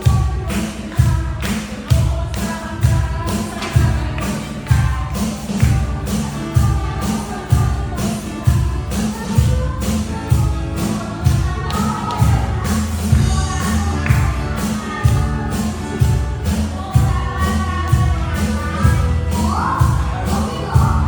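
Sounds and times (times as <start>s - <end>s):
worship music with drums: 0.0s - 21.0s.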